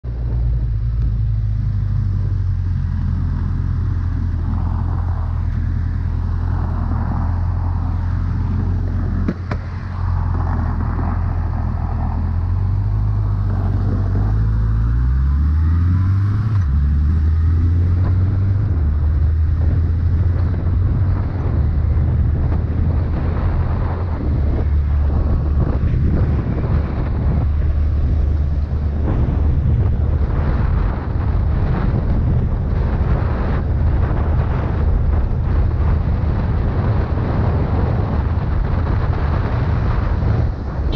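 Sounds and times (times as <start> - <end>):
motorcycle engine: 0.0 - 37.5
wind noise on microphone: 0.0 - 40.9.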